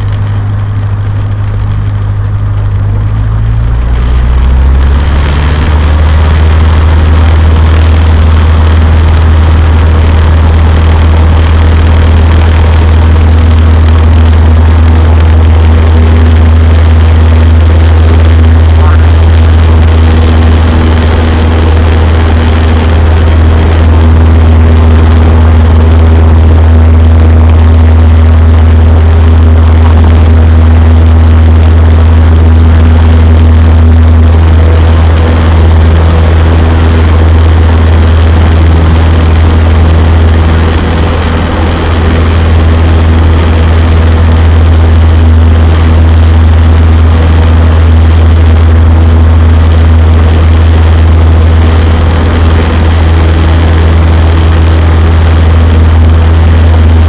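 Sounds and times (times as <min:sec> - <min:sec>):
aircraft engine deep drone: 0:00.0 - 0:57.0.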